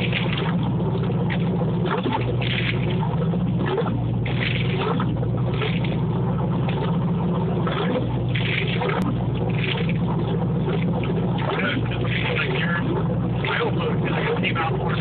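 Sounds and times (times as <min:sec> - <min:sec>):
boat engine idling: 0:00.0 - 0:15.0
water splashing: 0:00.0 - 0:15.0.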